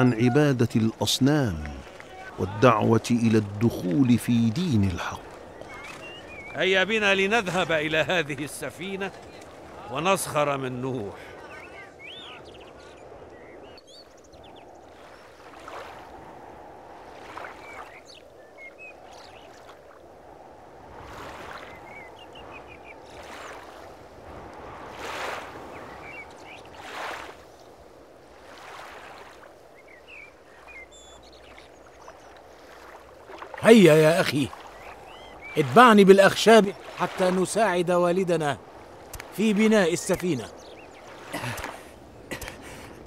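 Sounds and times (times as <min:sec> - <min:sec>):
running water: 0:00.0 - 0:13.3, 0:14.6 - 0:43.0.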